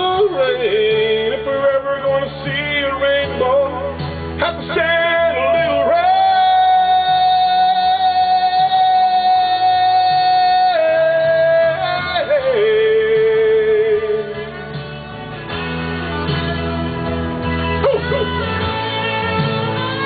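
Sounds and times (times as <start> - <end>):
country band music: 0.0 - 20.0.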